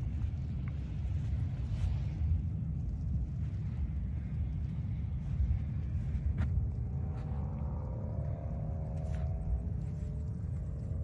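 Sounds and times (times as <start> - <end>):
faint rising whine: 0.0 - 11.0
truck low rumble: 0.0 - 11.0.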